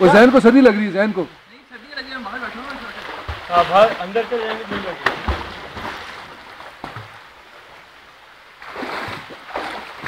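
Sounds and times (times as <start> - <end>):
water splashing: 0.0 - 10.0.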